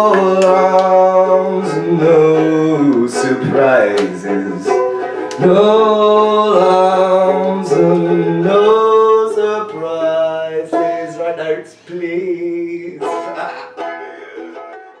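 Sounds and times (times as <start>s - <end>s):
man singing held notes: 0.0s - 13.5s
plucked strings: 0.0s - 15.0s.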